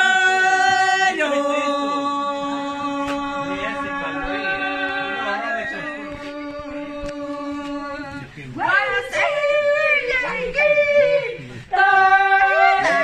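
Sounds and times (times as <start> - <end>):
women singing a long note: 0.0 - 13.0.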